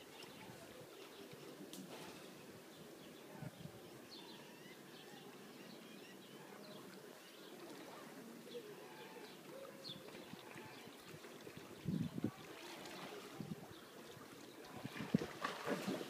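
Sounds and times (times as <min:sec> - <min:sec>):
faint birds chirping: 0:00.0 - 0:15.3
outdoor background noise: 0:00.0 - 0:16.0.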